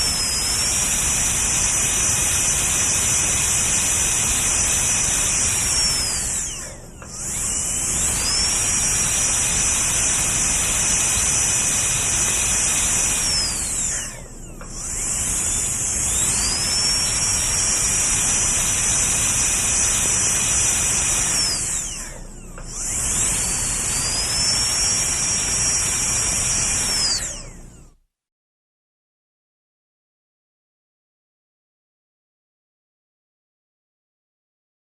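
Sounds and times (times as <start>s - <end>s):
dental drill whining: 0.0s - 28.0s.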